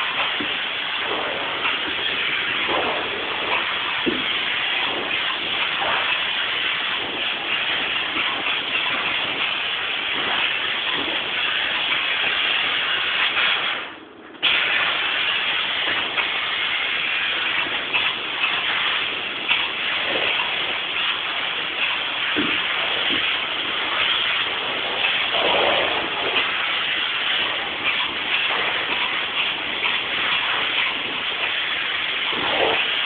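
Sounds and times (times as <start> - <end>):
spray foam gun hissing: 0.0 - 33.0.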